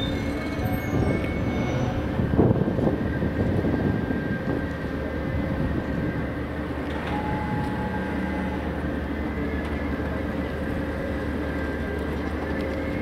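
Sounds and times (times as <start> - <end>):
idling train low hum: 0.0 - 13.0.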